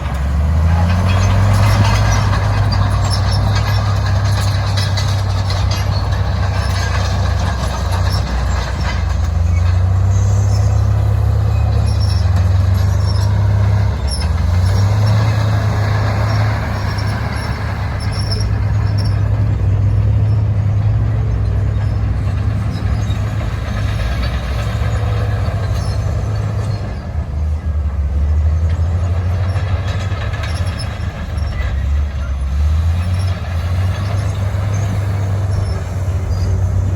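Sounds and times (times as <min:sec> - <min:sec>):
diesel machinery engine drone: 0:00.0 - 0:36.9.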